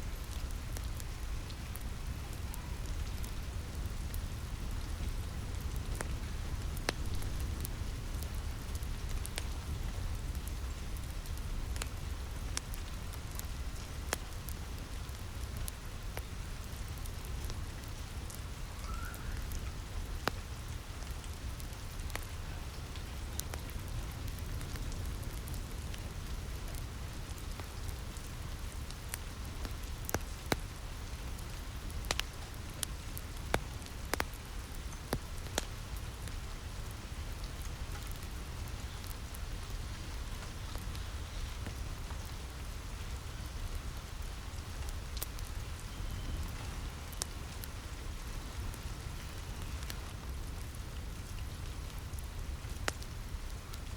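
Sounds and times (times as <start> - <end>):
rain on a roof: 0.0 - 53.9
wood fire crackling: 0.0 - 53.9.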